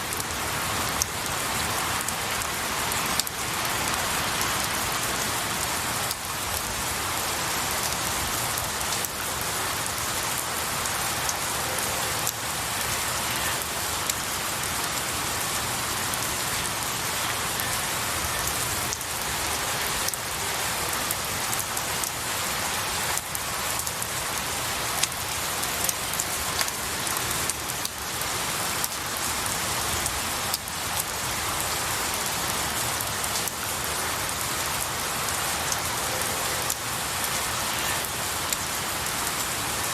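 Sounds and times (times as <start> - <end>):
rain falling on trees: 0.0 - 39.9
raindrops pattering: 0.0 - 39.9.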